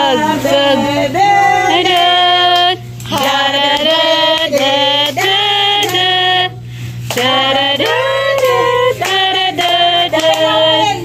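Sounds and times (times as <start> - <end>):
women and children singing: 0.0 - 11.0.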